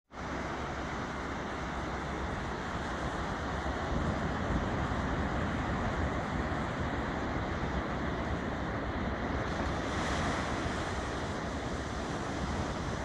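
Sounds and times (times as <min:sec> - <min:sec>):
ocean surf breaking: 0:00.2 - 0:13.0
wind buffeting microphone: 0:00.4 - 0:13.0.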